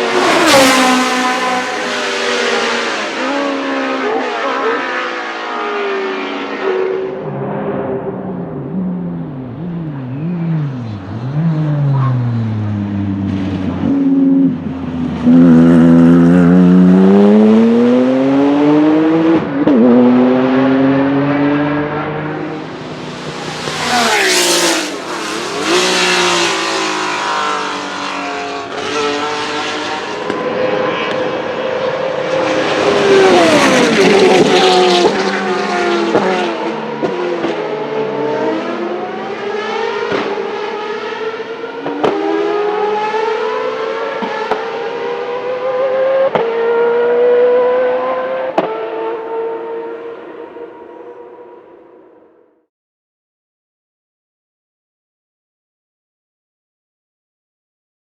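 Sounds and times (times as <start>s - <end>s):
racing car engines accelerating: 0.0s - 52.0s.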